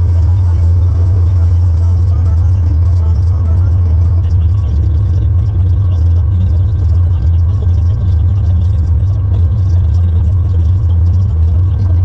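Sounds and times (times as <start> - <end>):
faint whining tones: 0.0 - 12.0
tractor engine rumbling: 0.0 - 12.0.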